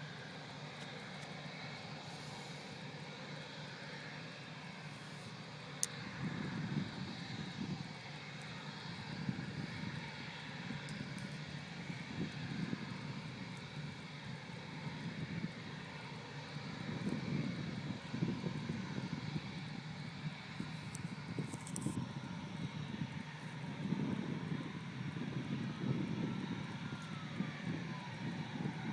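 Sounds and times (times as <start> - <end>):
faint steady whine: 0.0 - 28.9
jet engines rumbling: 0.0 - 28.9.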